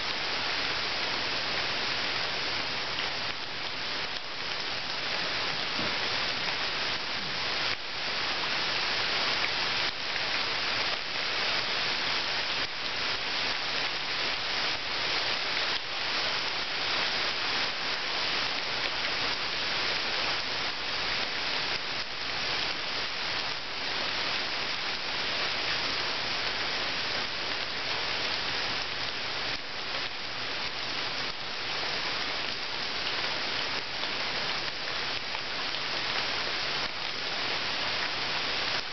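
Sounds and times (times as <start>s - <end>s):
rain falling into water: 0.0s - 38.9s.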